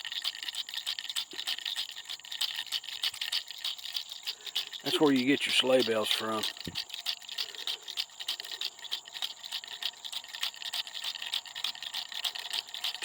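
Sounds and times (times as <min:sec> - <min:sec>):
dry objects rattling: 0:00.0 - 0:13.0.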